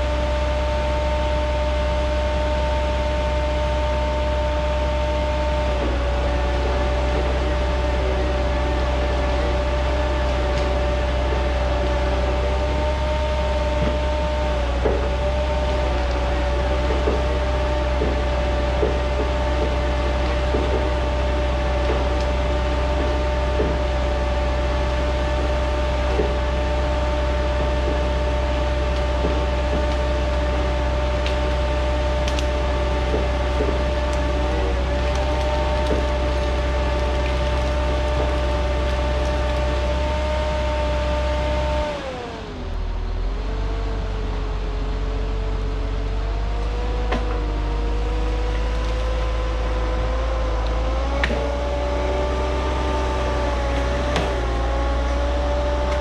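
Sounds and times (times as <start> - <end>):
deep engine hum: 0.0 - 56.0
high hydraulic whine: 0.0 - 56.0.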